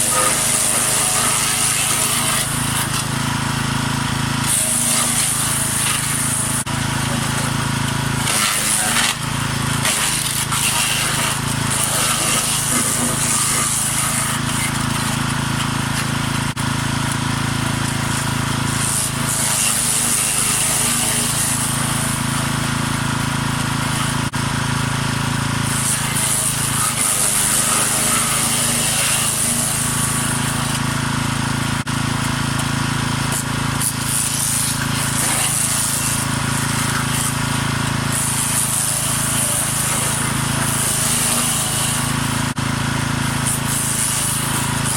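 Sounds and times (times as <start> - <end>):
wood chipper engine running: 0.0 - 44.9.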